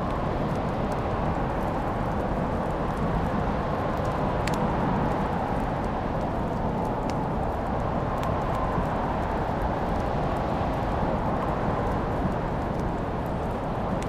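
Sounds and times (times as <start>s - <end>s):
fire crackling and popping: 0.0s - 14.0s
fireplace fire rushing: 0.0s - 14.0s.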